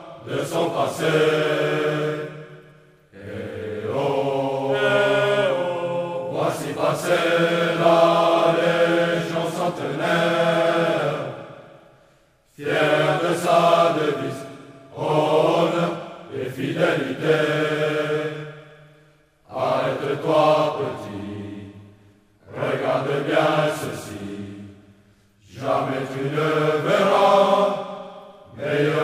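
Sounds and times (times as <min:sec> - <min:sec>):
choir singing long notes: 0:00.0 - 0:29.0.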